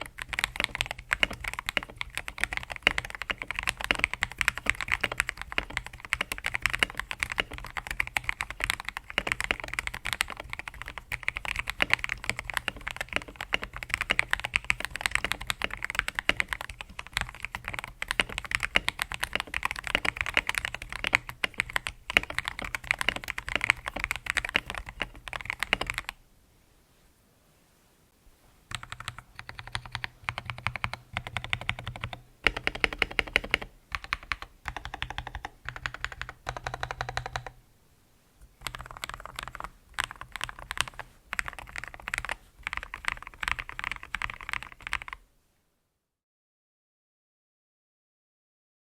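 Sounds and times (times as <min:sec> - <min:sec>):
fast typing on mechanical keyboard: 0:00.0 - 0:26.2, 0:28.7 - 0:37.6, 0:38.6 - 0:45.2.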